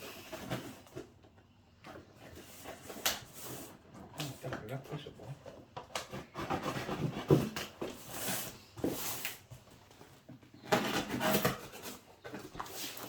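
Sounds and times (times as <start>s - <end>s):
packaging rustling and scraping: 0.0s - 13.0s.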